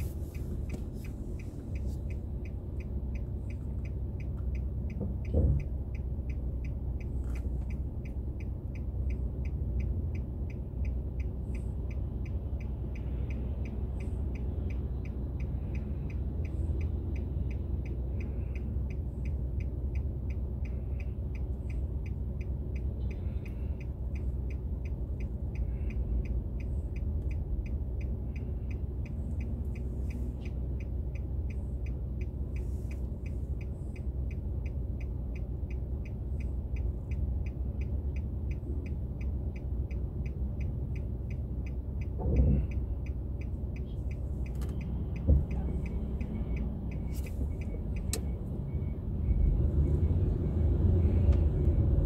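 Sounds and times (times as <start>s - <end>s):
car engine rumble and road noise: 0.0s - 52.0s
faint regular ticking: 0.0s - 52.0s.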